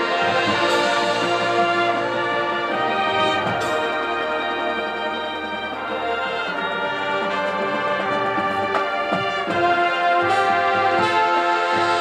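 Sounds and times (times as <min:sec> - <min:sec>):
drum strikes: 0:00.0 - 0:12.0
marching band playing: 0:00.0 - 0:12.0.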